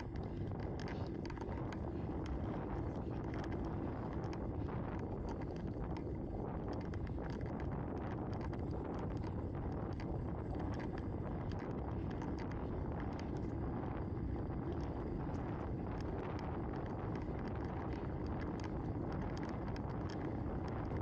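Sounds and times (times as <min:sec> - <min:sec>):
light ticks: 0:00.0 - 0:21.0
wind noise on microphone: 0:00.0 - 0:21.0.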